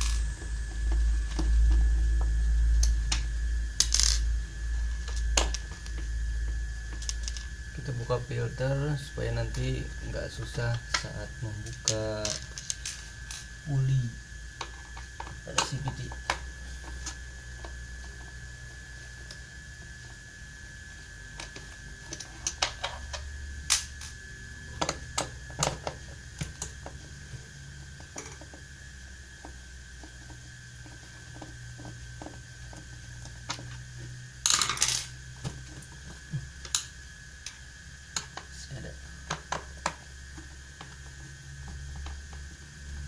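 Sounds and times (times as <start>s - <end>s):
faint high hum: 0.0s - 43.0s.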